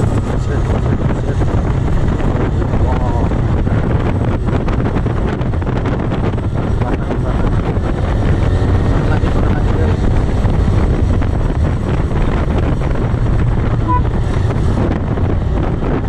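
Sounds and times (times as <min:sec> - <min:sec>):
road and engine noise: 0:00.0 - 0:16.0
wind buffeting microphone: 0:00.0 - 0:16.0.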